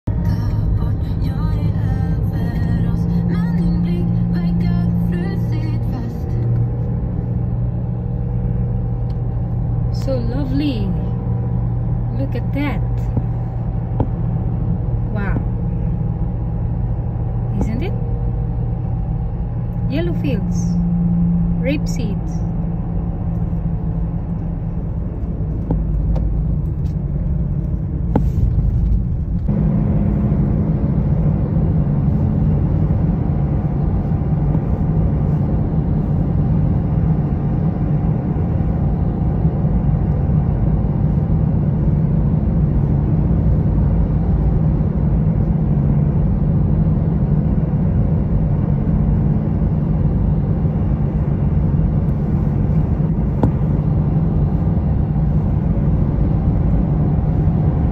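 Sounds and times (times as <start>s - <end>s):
car road noise rumble: 0.0s - 57.9s.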